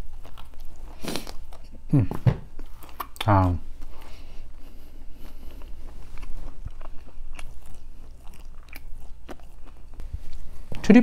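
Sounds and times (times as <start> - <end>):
man chewing food: 0.0 - 10.8.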